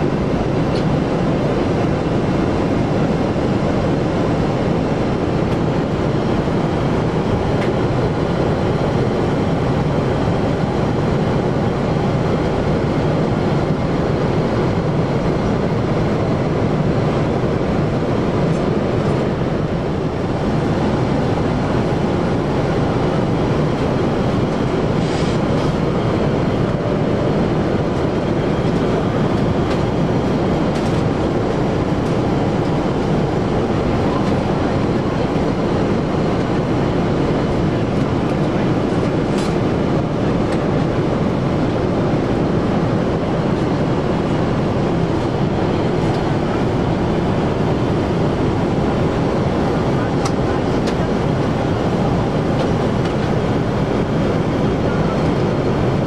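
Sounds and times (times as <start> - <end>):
airflow rush: 0.0 - 56.0
jet engine drone: 0.0 - 56.0.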